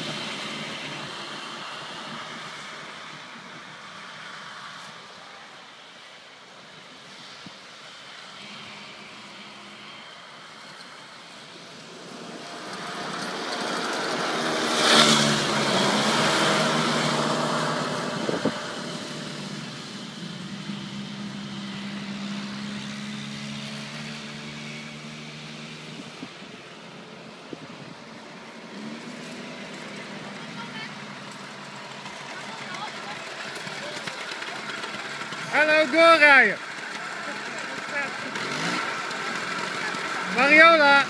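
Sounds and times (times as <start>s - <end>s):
go-kart engines buzzing: 0.0s - 5.7s, 6.5s - 41.0s.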